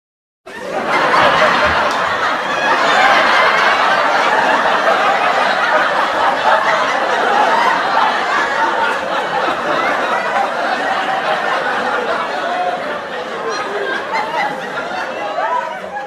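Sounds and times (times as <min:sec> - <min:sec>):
studio audience laughter: 0:00.5 - 0:16.0.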